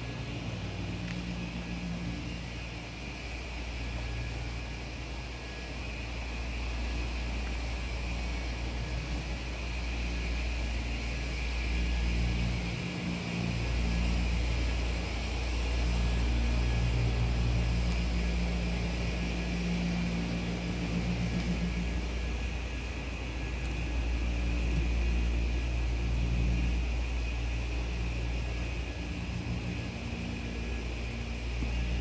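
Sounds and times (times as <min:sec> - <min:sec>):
low rumble with hum: 0:00.0 - 0:32.0.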